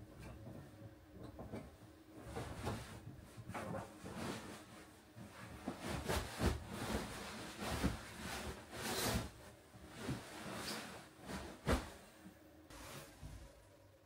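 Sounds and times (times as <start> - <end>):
bedding rustling: 1.4 - 13.6.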